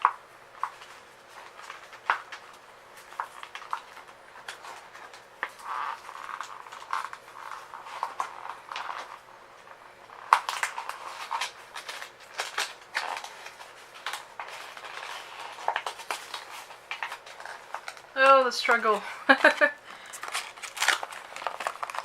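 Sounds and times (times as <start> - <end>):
packaging rustling and crackling: 0.0 - 22.0.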